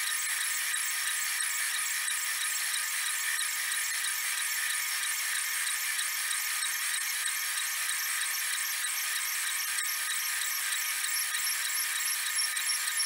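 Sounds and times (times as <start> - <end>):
three-d printer motors whirring: 0.0 - 13.0.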